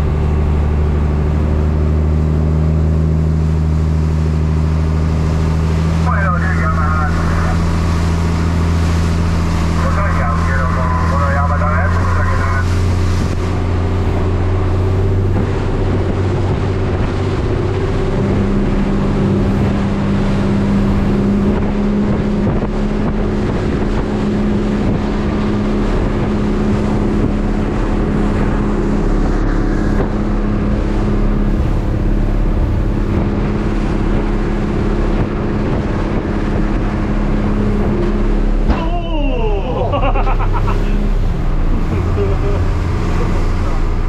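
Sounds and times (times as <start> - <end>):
boat engine running: 0.0 - 44.0
wind and water rushing: 0.0 - 44.0.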